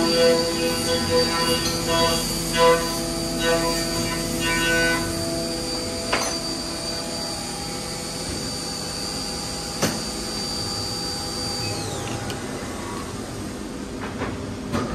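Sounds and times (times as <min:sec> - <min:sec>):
machine hissing and whining: 0:00.0 - 0:13.9.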